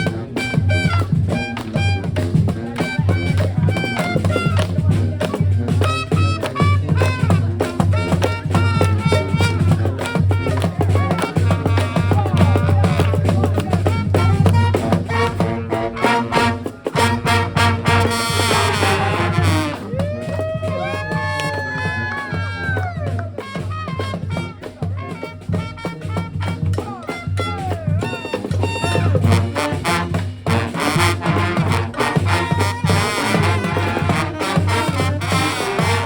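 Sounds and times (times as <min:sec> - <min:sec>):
brass band playing: 0:00.0 - 0:36.0
steady drum beat: 0:00.0 - 0:36.0.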